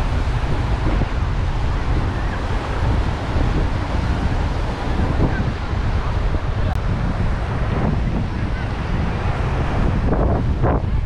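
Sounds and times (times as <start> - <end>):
waves breaking on shore: 0.0 - 11.0
wind rumbling on microphone: 0.0 - 11.0.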